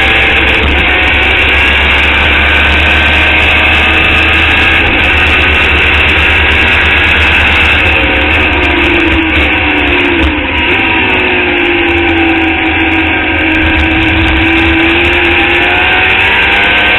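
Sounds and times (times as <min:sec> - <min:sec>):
race car engine running hard: 0:00.0 - 0:16.9.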